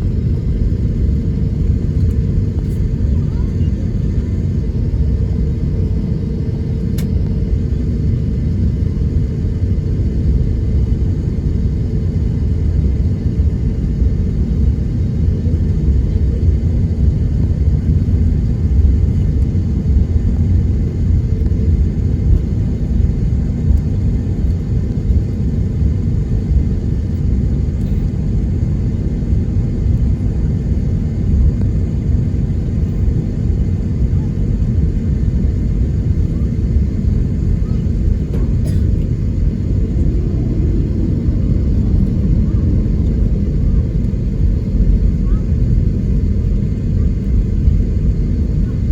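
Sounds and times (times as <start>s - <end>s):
aircraft cabin rumble while taxiing: 0.0s - 48.9s.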